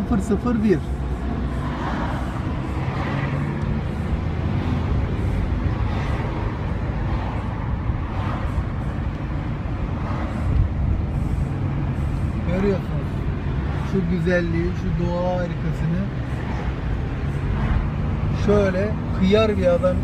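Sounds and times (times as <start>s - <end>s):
road and traffic noise: 0.0s - 20.0s
vehicle engine rumbling: 0.0s - 20.0s.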